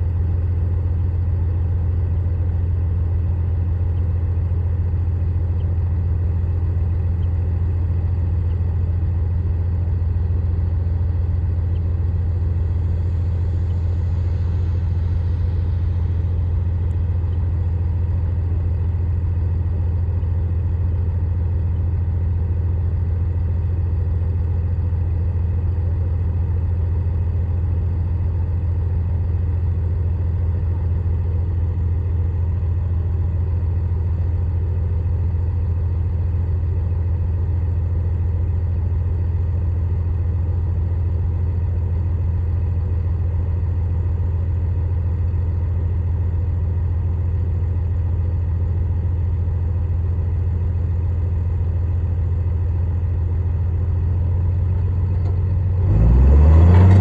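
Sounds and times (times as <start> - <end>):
heavy diesel engine droning: 0.0 - 33.3, 41.0 - 57.0.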